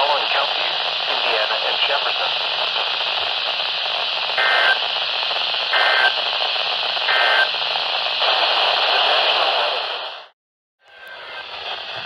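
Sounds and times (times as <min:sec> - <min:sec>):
static hiss: 0:00.0 - 0:10.3.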